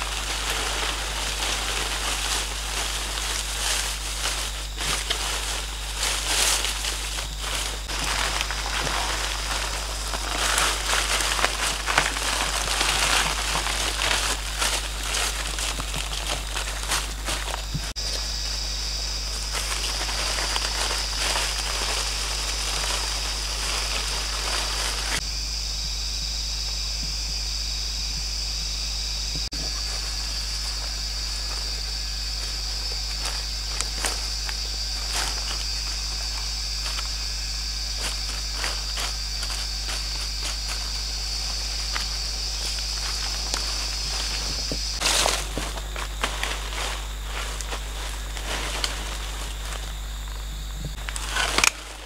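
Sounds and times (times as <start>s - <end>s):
leaf litter and sticks crackling: 0.0s - 25.2s, 29.5s - 52.0s
insects droning: 0.0s - 52.0s.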